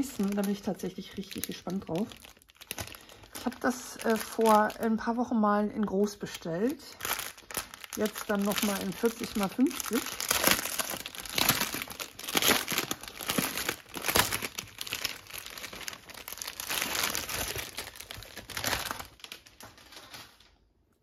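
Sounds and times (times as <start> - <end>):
plastic bag crinkling: 0.0 - 20.8.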